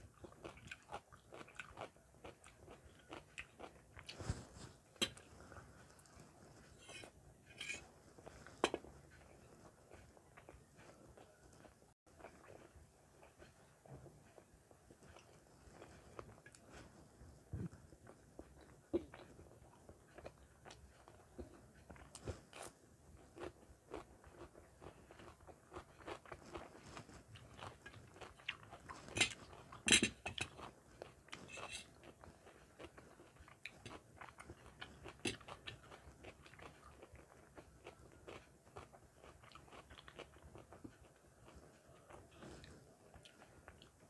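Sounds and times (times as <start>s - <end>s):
crunchy chewing of salad: 0.0s - 44.0s.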